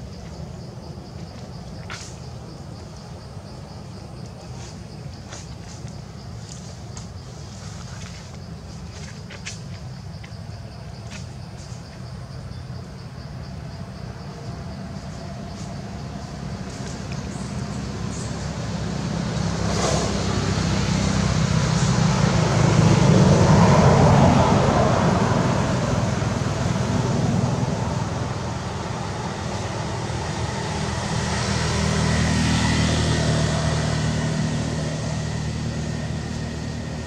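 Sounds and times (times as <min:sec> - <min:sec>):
road traffic engine hum: 0:00.0 - 0:37.0
vehicles passing: 0:00.0 - 0:37.0.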